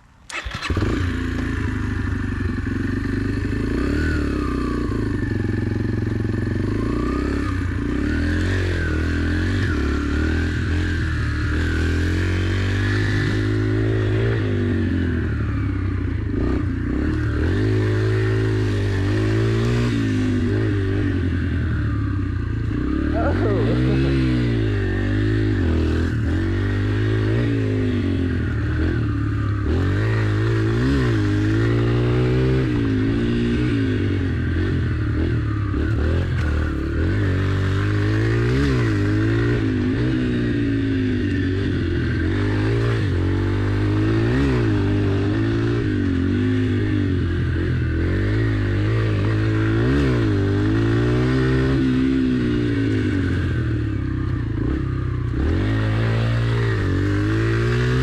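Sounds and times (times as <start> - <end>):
motorbike engine revving: 0.3 - 58.0.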